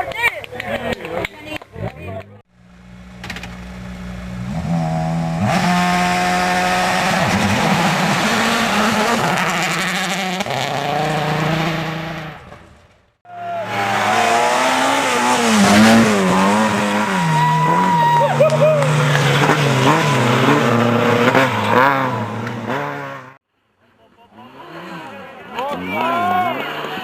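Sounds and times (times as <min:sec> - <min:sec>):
racing car engine at high revs: 0:01.8 - 0:12.5, 0:13.6 - 0:23.4, 0:24.3 - 0:27.0.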